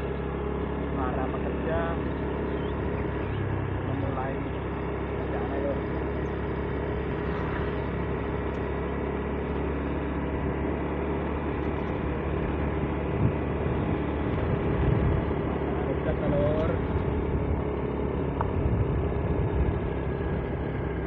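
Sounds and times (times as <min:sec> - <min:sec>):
road noise: 0:00.0 - 0:21.0
vehicle engine drone: 0:00.0 - 0:21.0.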